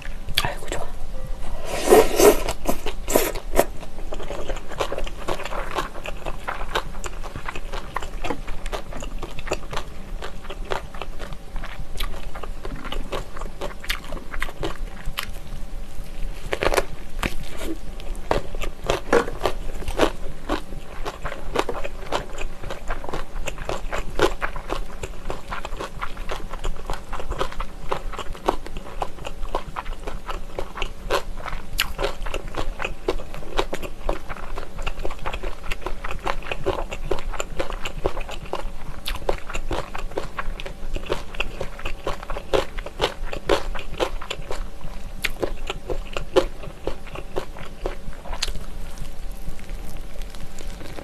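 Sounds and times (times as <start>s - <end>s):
chewing: 1.9s - 15.4s, 16.1s - 51.0s.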